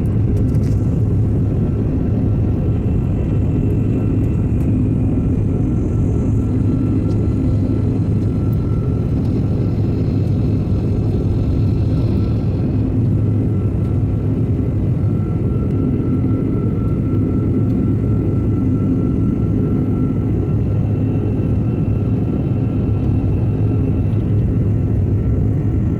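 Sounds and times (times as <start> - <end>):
jet engines droning: 0.0 - 25.9.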